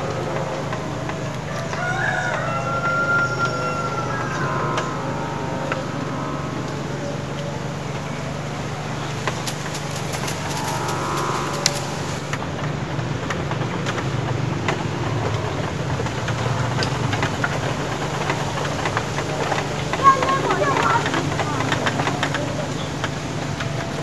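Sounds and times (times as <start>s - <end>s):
low motor hum: 0.0s - 24.0s.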